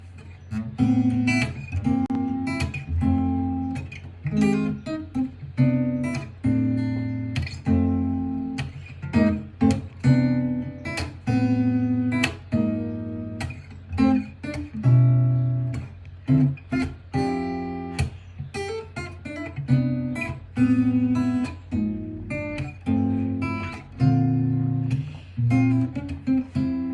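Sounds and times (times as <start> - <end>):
acoustic guitar strumming: 0.0 - 26.9.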